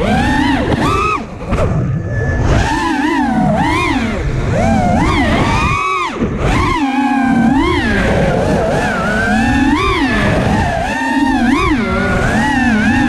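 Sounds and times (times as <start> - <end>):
drone motors whining: 0.0 - 13.0
low wind rumble: 0.0 - 13.0.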